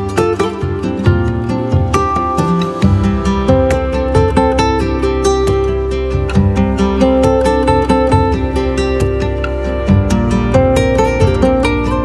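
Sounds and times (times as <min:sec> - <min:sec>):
plucked string background music: 0:00.0 - 0:12.0.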